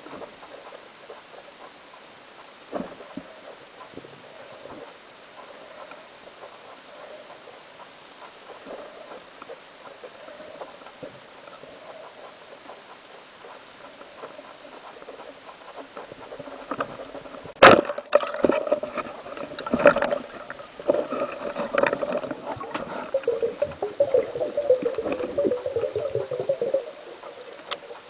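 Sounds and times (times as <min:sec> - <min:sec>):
faint murky water noise: 0:00.0 - 0:28.0.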